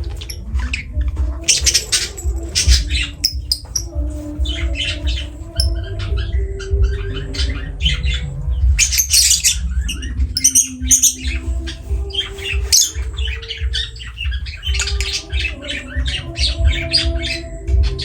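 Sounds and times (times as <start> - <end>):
lovebirds squawking: 0.0 - 18.0.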